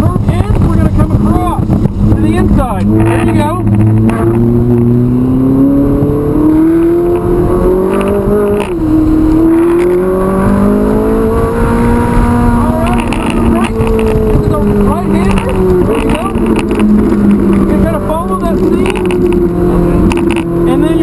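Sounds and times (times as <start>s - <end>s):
sports car engine accelerating: 0.0s - 21.0s.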